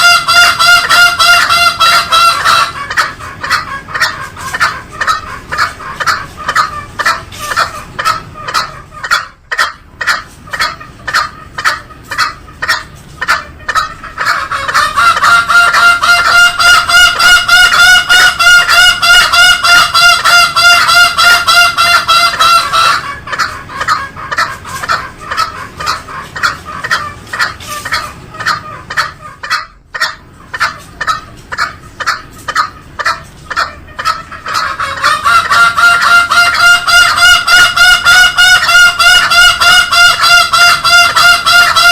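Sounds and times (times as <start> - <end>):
junglefowl rapid repeated call: 0.0 - 41.9.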